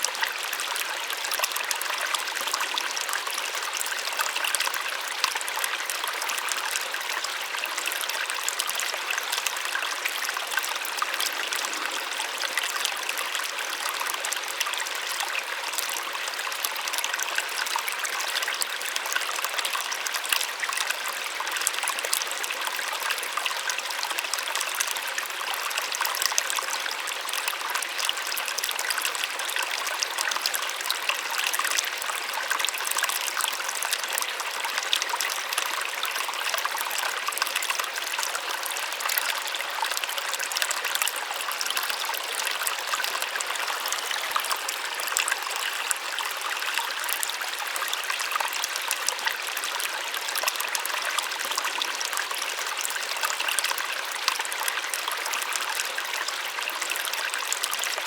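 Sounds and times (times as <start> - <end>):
waterfall splashing and trickling: 0.0 - 58.0.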